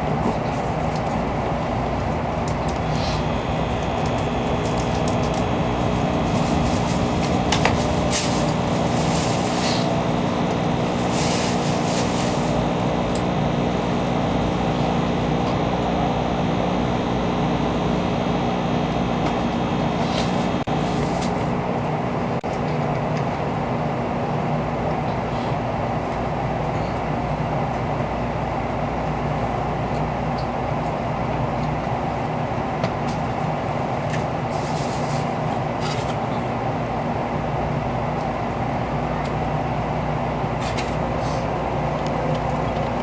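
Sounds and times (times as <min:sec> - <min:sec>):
train cabin running hum: 0:00.0 - 0:43.0.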